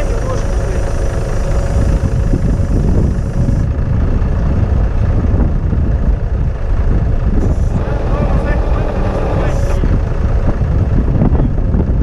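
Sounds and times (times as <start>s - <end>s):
truck engine running: 0.0s - 12.0s
wind buffeting microphone: 0.0s - 12.0s.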